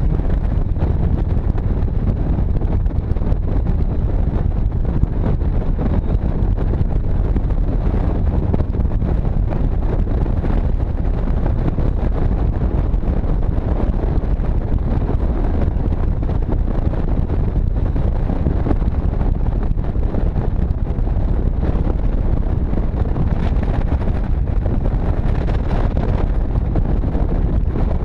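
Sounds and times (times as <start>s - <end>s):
motorcycle engine and road rumble: 0.0s - 28.0s
wind buffeting microphone: 0.0s - 28.0s.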